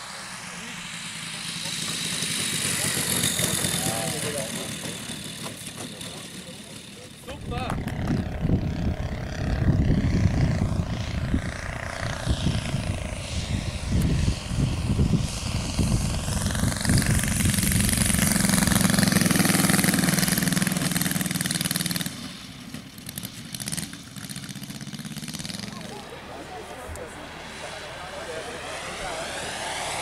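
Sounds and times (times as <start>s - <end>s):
model airplane engine and propeller: 0.0s - 30.0s.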